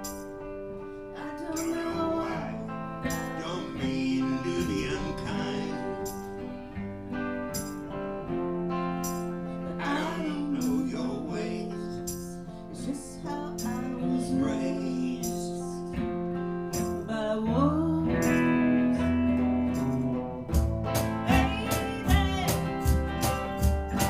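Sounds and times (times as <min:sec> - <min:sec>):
acoustic guitar slow song: 0:00.0 - 0:24.0.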